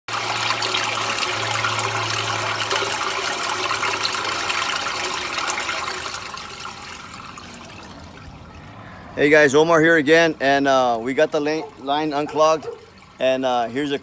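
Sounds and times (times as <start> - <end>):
water rushing through drain: 0.1 - 14.0.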